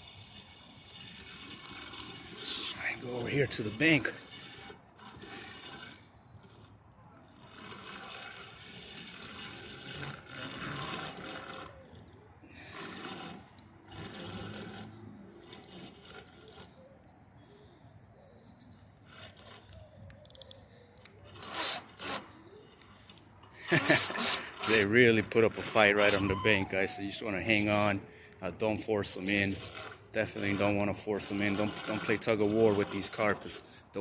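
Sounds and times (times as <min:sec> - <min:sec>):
fishing reel rasping: 0:00.0 - 0:16.8, 0:19.0 - 0:28.1, 0:29.1 - 0:34.0.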